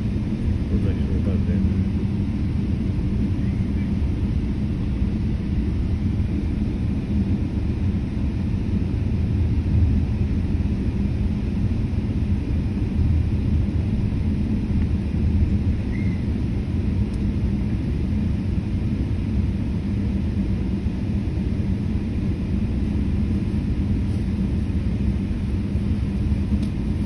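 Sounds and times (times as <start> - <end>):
jet engines and wheels rumbling: 0.0 - 27.0.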